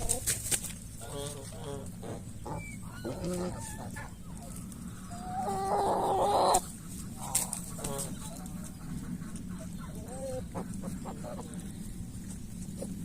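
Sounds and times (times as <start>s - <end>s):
chickens clucking: 0.0s - 13.0s
drawn-out chicken call: 0.0s - 13.0s.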